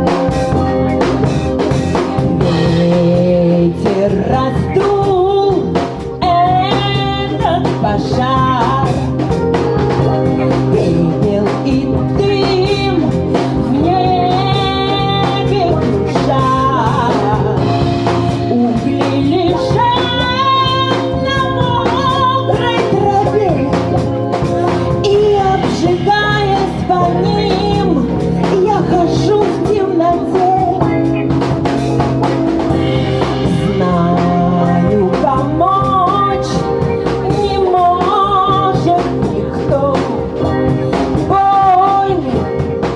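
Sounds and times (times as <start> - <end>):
live band playing: 0.0 - 42.9
woman singing: 0.0 - 42.9.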